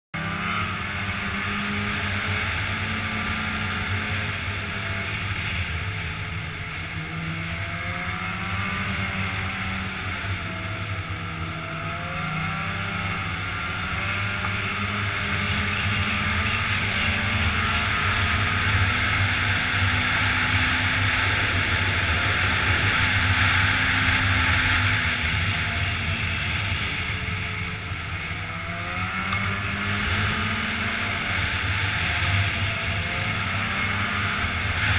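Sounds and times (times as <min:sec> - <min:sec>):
snowmobile engine running: 0:00.2 - 0:34.9.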